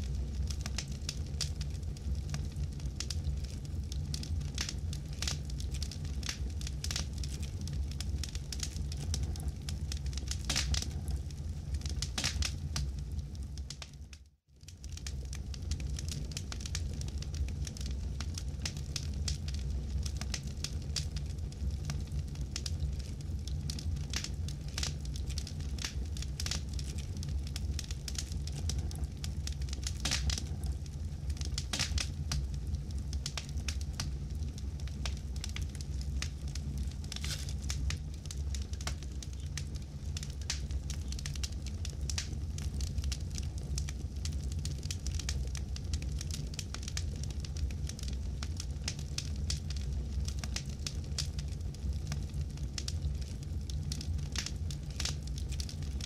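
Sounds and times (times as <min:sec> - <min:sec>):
low rumble of flames: 0:00.0 - 0:56.0
wood crackling and popping: 0:00.0 - 0:56.0.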